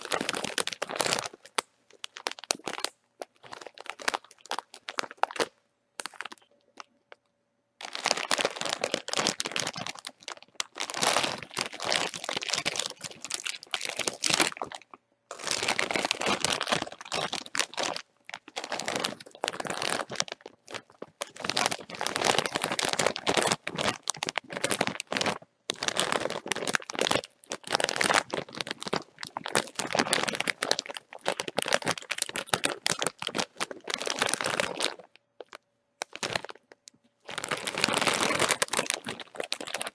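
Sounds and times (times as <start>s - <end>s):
crisp packet crinkling: 0.0s - 6.9s, 7.8s - 39.9s.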